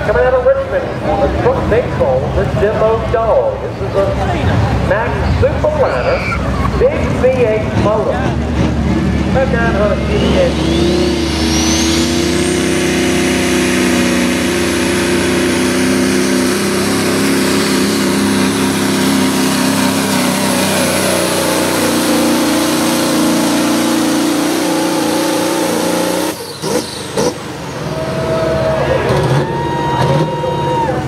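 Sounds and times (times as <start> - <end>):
truck engine at full throttle: 0.0 - 31.0.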